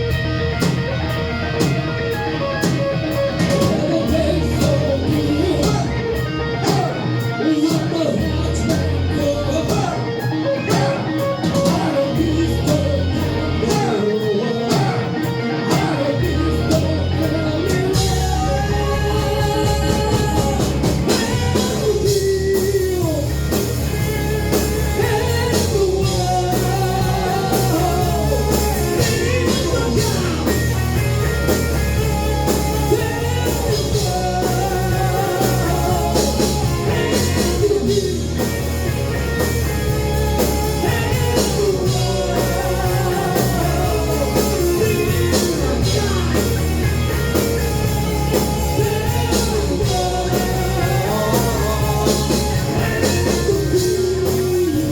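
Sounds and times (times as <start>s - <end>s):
bass guitar: 0.0s - 54.9s
drums: 0.0s - 54.9s
electric guitars: 0.0s - 54.9s
person singing: 3.4s - 23.6s, 24.5s - 31.6s, 32.3s - 38.6s, 40.2s - 54.9s.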